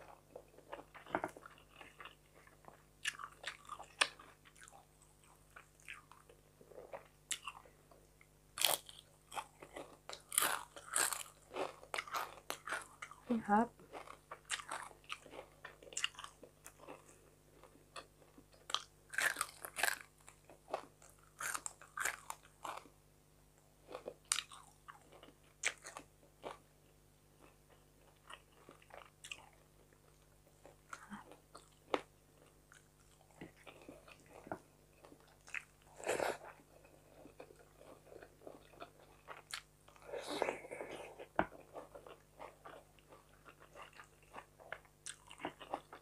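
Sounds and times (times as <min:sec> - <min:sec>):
person chewing crunchy food: 0:00.0 - 0:08.0, 0:08.6 - 0:22.9, 0:23.8 - 0:46.0.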